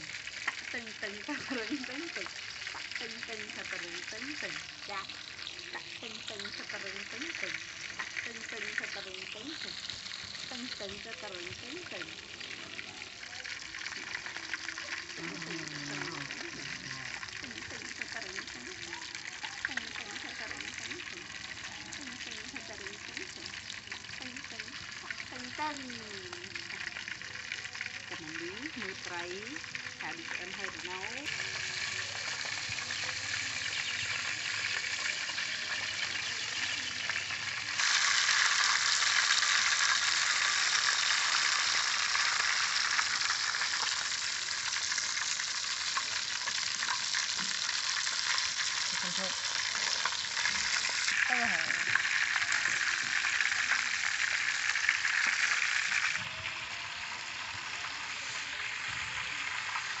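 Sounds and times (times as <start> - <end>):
food sizzling in hot oil: 0.0 - 60.0.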